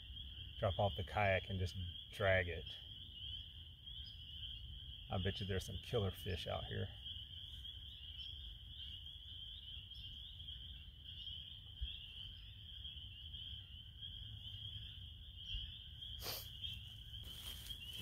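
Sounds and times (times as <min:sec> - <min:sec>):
frogs calling: 0:00.0 - 0:18.0.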